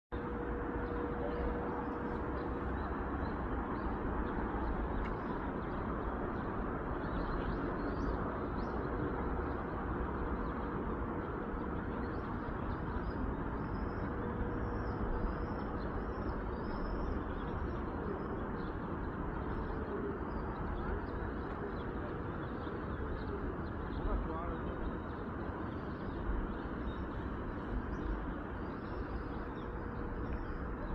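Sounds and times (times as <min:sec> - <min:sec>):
outdoor rumble and hiss: 0:00.2 - 0:30.9.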